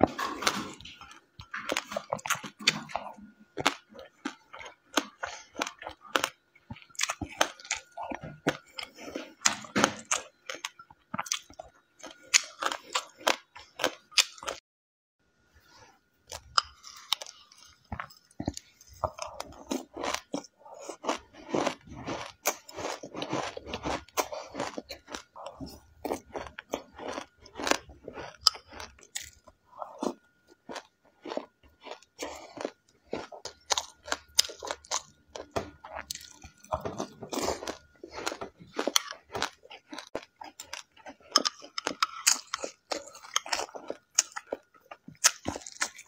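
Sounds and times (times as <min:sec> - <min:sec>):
person chewing crunchy seeds: 0:00.0 - 0:14.6, 0:15.7 - 0:46.0.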